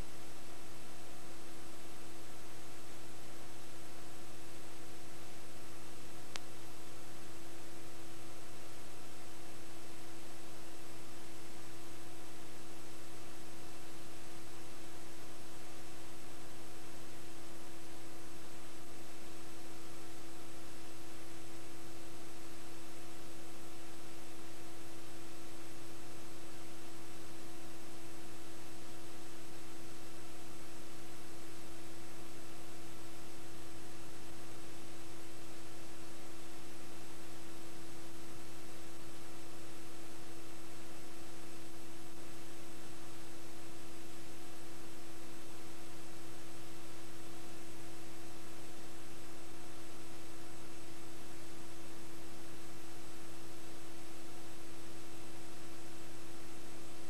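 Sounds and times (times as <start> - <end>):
electrical hum and hiss: 0.0 - 57.0.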